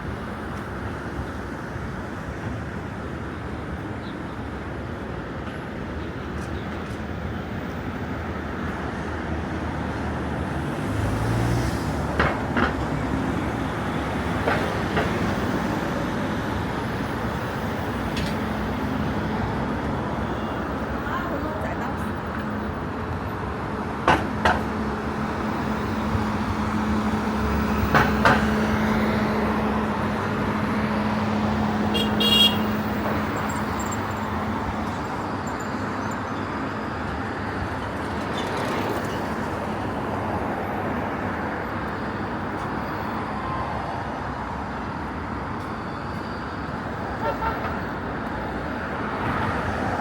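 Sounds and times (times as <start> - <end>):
street traffic hum: 0.0 - 50.0.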